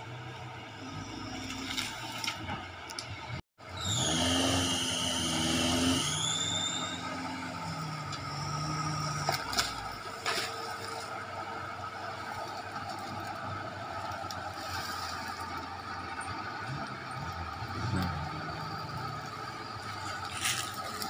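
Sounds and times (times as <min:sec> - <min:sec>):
off-road vehicle engine labouring: 0:00.0 - 0:21.0.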